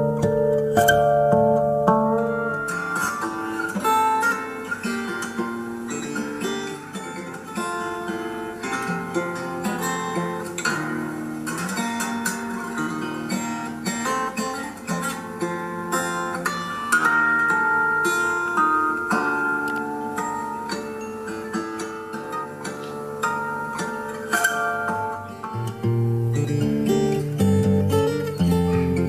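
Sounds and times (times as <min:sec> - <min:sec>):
fingerstyle acoustic guitar: 0:00.0 - 0:29.0.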